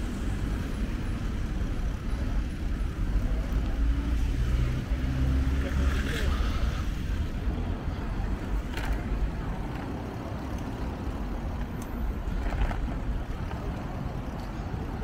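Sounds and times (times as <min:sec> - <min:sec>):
bicycle rolling on paved path: 0:00.0 - 0:15.0.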